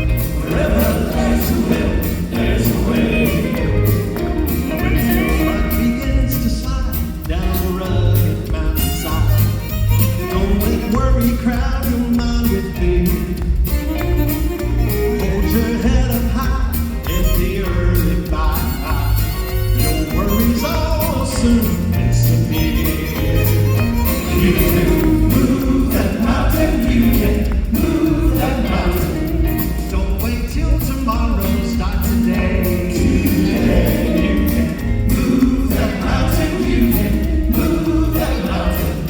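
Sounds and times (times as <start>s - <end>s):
gospel group singing in harmony: 0.0s - 13.6s, 15.2s - 39.0s
band accompaniment: 0.0s - 39.0s.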